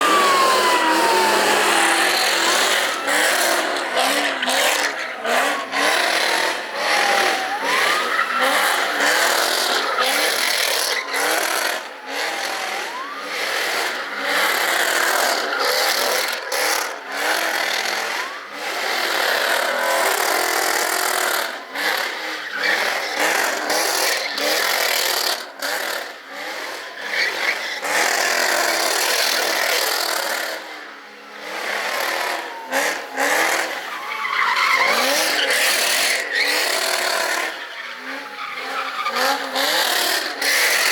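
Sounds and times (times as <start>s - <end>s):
car tyres screeching: 0.0s - 40.9s.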